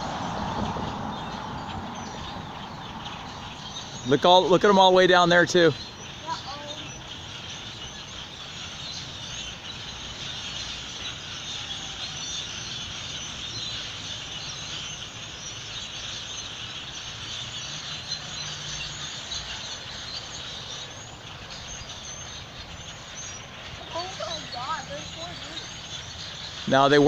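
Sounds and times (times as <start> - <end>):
flock of birds chirping: 0.0 - 27.0.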